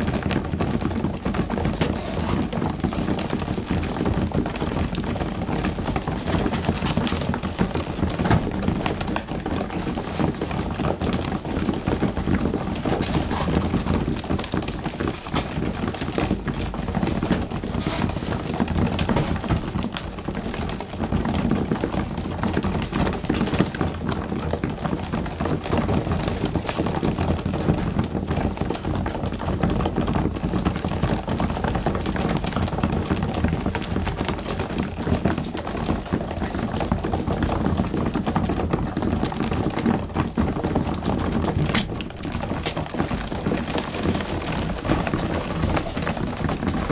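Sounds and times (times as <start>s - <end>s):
pigeons pecking grain: 0.0s - 46.9s.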